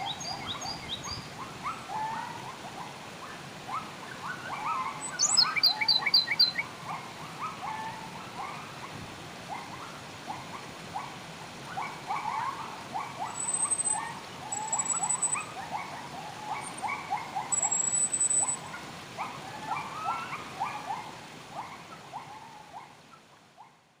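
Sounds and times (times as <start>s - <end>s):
wild birds chirping: 0.0s - 8.9s, 9.5s - 23.7s
faint steady hiss: 0.0s - 24.0s.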